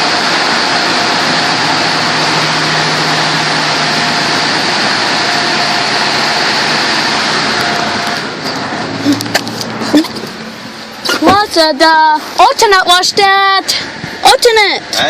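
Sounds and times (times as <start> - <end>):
motor hum: 0.0 - 12.2
car wash rushing noise: 0.0 - 15.0.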